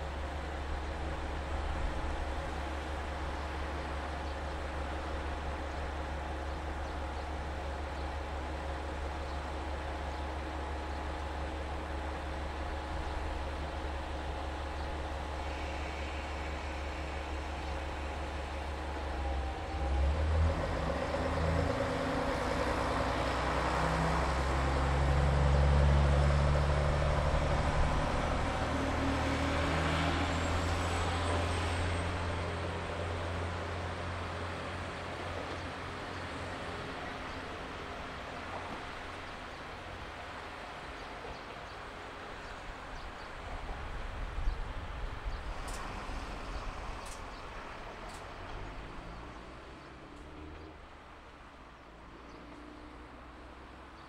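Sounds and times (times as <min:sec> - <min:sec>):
diesel railcar engine pulling away: 0:00.0 - 0:54.0.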